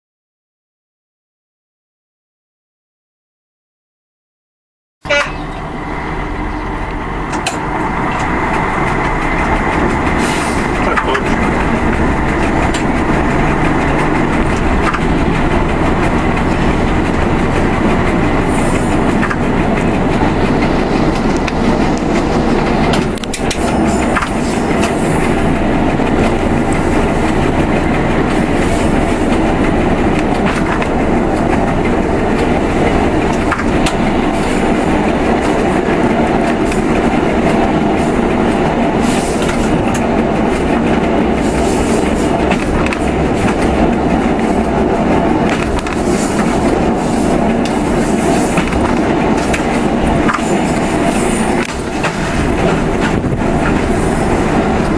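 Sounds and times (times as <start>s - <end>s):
diesel railcar engine running: 5.0s - 54.9s
train wheels rolling on track: 5.1s - 54.9s.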